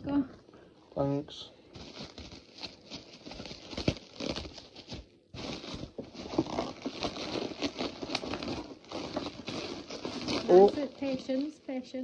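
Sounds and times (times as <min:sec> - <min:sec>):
packaging rustling and crackling: 0:01.7 - 0:12.0.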